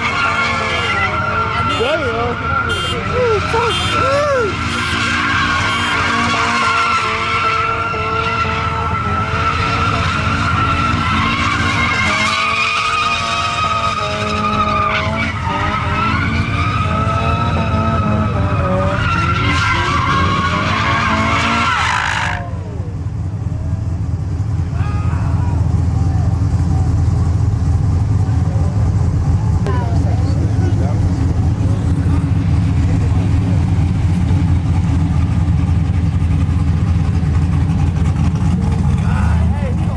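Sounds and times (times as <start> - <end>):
loud car engine: 0.0 - 39.9
tires squealing: 0.0 - 39.9.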